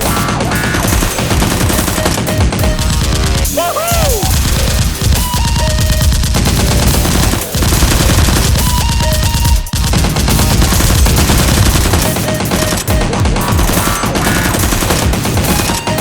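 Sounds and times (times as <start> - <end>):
automatic gunfire: 0.0 - 16.0.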